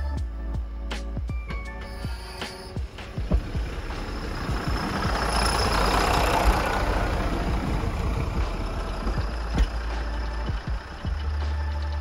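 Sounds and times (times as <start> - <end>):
diesel engine rumbling: 0.0 - 12.0
railcar running noise rush: 1.6 - 12.0.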